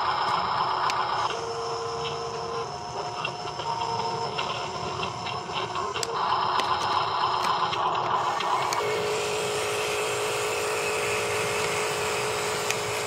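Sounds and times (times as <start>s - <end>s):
electric motor and gears whirring: 0.0s - 13.0s
rough gear whirr: 0.0s - 13.0s.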